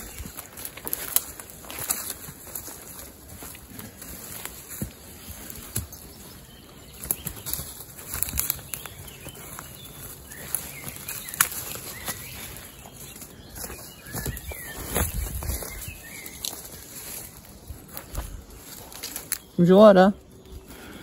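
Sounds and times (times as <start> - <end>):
footsteps on rough path: 0.0 - 19.6
rustling through undergrowth: 0.0 - 21.0.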